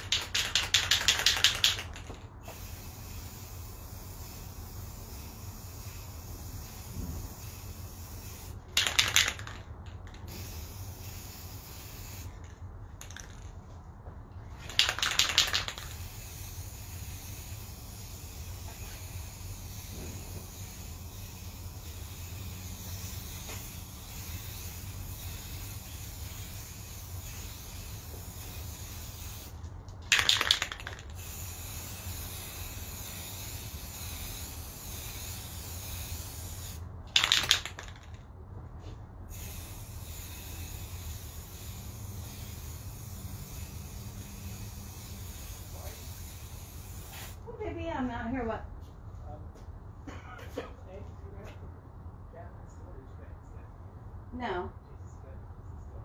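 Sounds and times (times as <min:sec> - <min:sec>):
aerosol spray can hissing: 0:00.0 - 0:13.5, 0:14.6 - 0:38.0, 0:39.3 - 0:47.4.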